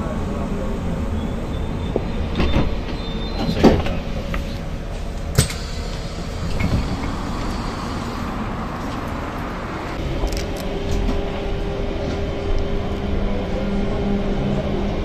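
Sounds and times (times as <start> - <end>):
tram running rumble: 0.0 - 15.0.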